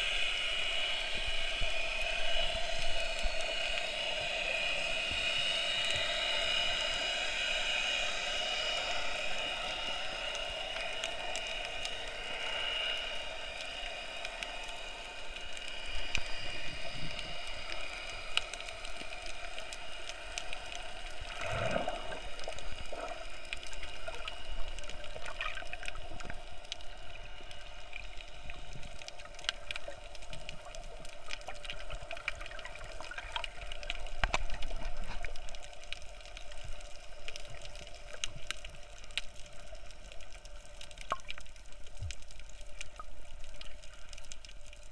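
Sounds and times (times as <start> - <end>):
muffled underwater hiss: 0.0 - 44.9
sharp underwater clicks and crackles: 0.0 - 44.9.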